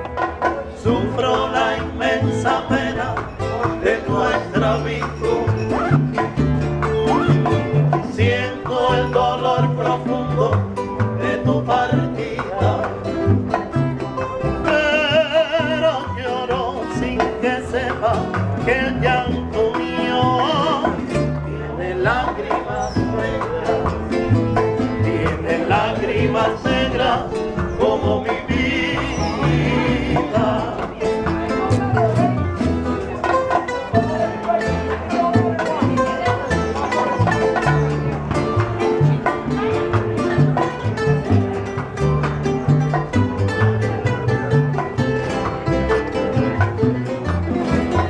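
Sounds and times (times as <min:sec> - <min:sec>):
bongos: 0:00.0 - 0:48.0
strummed acoustic guitar: 0:00.0 - 0:48.0
men singing: 0:00.2 - 0:41.7.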